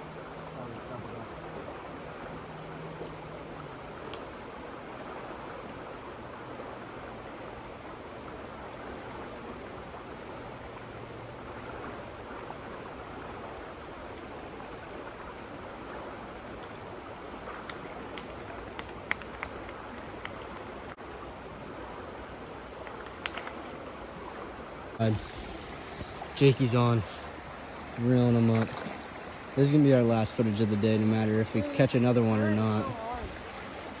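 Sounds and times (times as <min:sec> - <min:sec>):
water rushing: 0:00.0 - 0:34.0.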